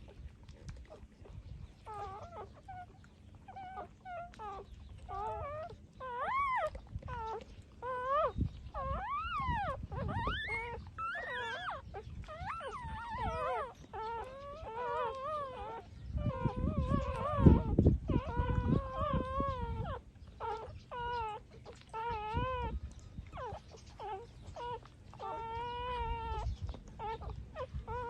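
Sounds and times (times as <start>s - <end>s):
puppies whining and squealing: 0.0s - 28.0s.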